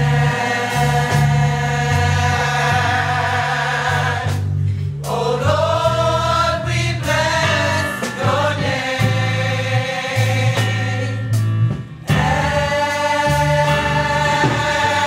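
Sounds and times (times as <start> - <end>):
bass line: 0.0 - 15.0
gospel choir singing: 0.0 - 15.0.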